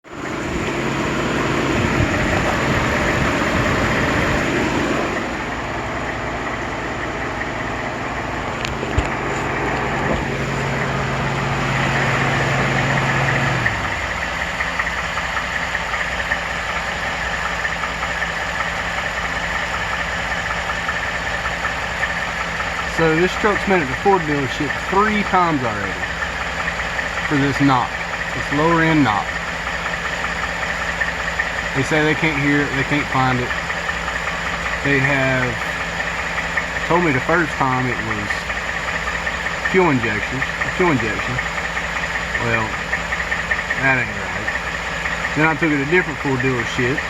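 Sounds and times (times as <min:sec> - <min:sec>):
engine idling with ticking knock: 0:00.0 - 0:47.0.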